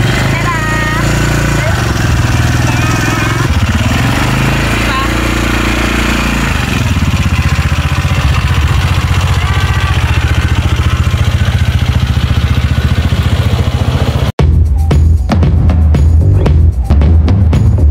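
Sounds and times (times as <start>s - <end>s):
small atv engine running: 0.0s - 14.4s.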